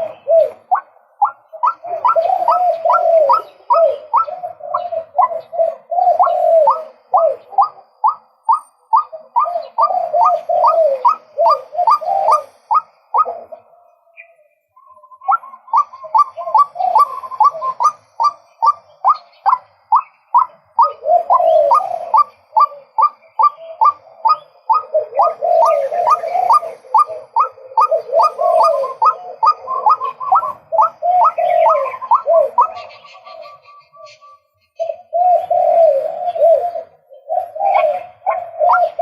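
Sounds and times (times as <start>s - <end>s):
lower wavering bird calls: 0.0s - 39.0s
waterhen sharp calling notes: 0.0s - 39.0s.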